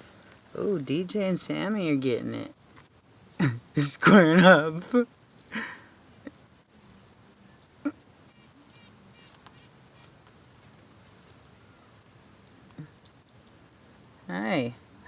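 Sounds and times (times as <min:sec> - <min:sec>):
cricket chirping: 0:00.0 - 0:00.3, 0:01.0 - 0:15.0.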